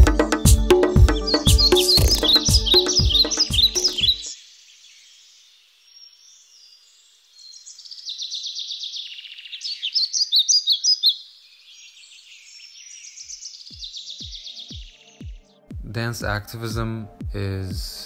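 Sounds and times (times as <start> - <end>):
birds singing and chirping: 0.1 - 5.1, 5.9 - 15.7.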